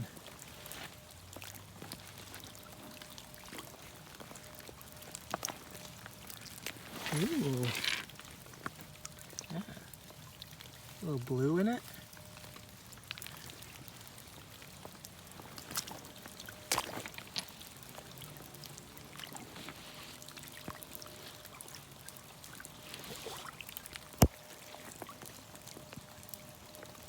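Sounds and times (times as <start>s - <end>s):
creek water trickling: 0.0s - 27.0s.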